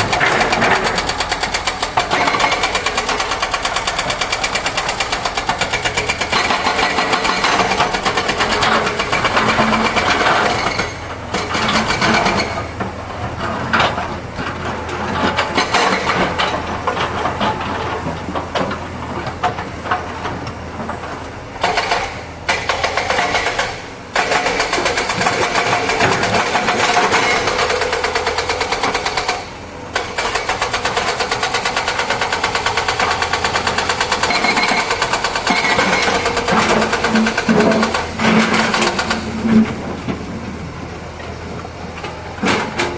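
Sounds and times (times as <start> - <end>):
excavator diesel engine rattling: 0.0 - 42.9.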